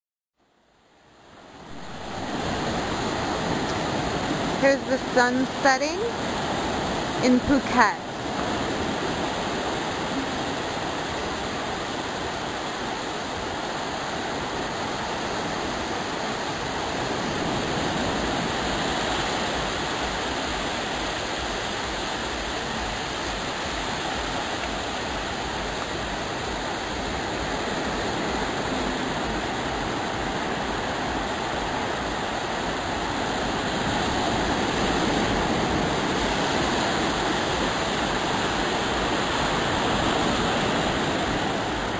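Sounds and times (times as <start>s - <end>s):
surf waves washing on sand: 0.8s - 41.9s.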